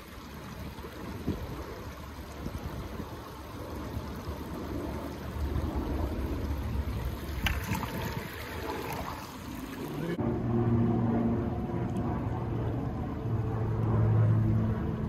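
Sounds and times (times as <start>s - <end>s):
low motor hum: 0.2s - 15.0s
outdoor rumbling noise: 0.7s - 15.0s.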